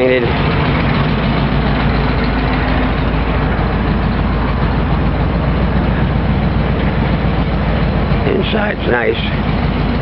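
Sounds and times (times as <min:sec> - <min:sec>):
van engine idling: 0:00.0 - 0:10.0.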